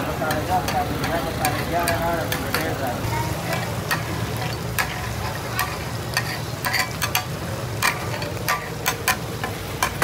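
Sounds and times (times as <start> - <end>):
liver sizzling in oil: 0.0 - 10.0
metal spatula scraping and clanking: 0.2 - 10.0.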